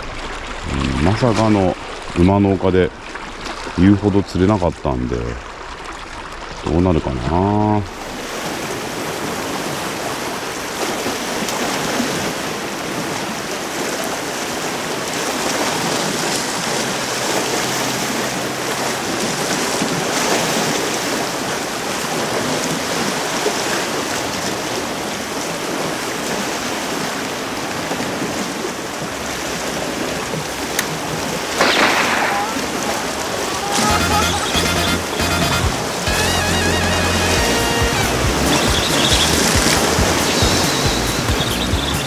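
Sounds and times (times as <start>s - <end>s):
waves splashing against rocks: 0.0s - 36.1s, 38.5s - 42.0s.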